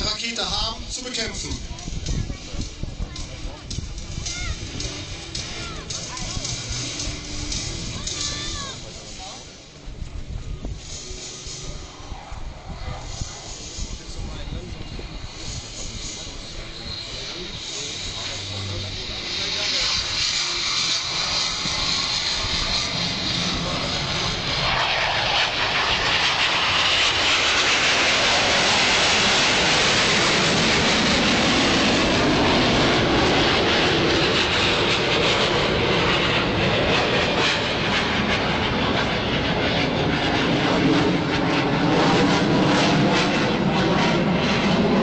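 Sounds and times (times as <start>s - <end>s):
military jets flying past: 0.0s - 45.0s.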